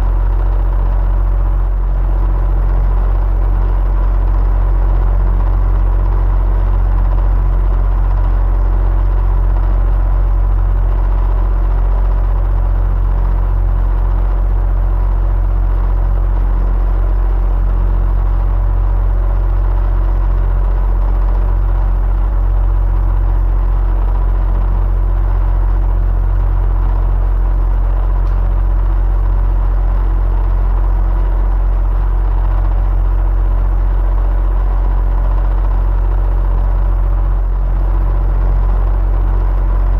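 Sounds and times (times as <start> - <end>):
electric fan whirring: 0.0 - 39.9.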